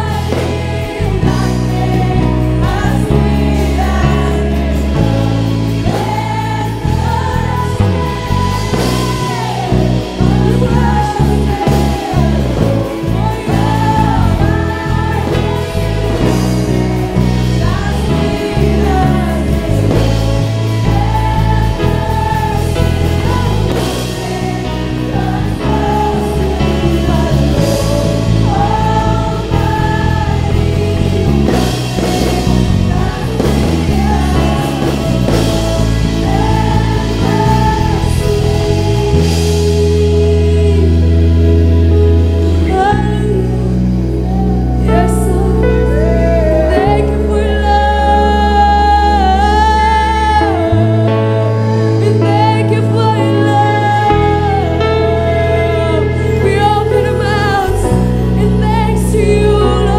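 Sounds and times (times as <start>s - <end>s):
band with electric guitar and drums: 0.0s - 59.9s
women singing: 0.0s - 59.9s.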